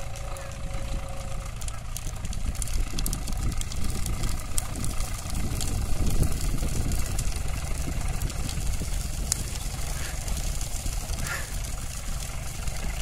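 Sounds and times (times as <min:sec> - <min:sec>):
burning branches crackling: 0:00.0 - 0:13.0
tractor engine running: 0:00.0 - 0:13.0.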